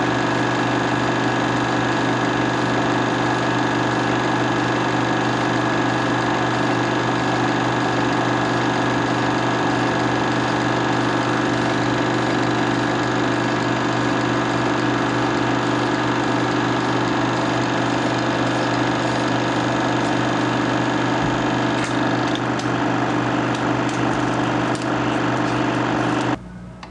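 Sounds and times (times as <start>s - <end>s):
film projector buzz and hum: 0.0s - 26.9s.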